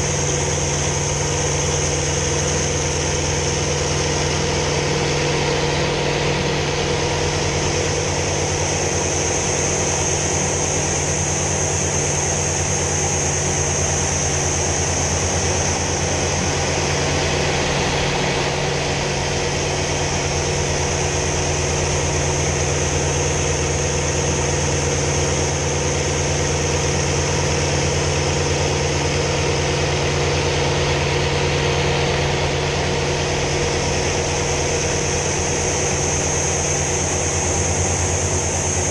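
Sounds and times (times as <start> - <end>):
aircraft radial engine running: 0.0 - 38.9.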